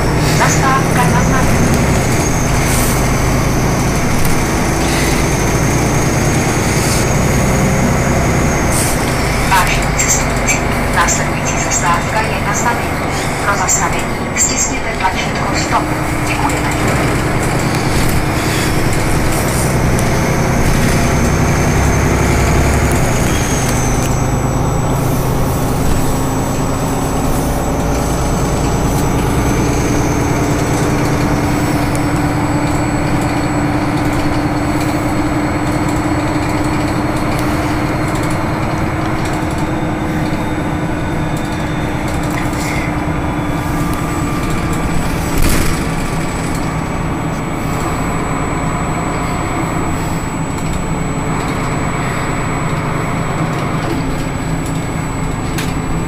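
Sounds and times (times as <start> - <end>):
bus engine drone: 0.0 - 56.0
road noise: 0.0 - 56.0
whine climbing in pitch: 0.0 - 56.0.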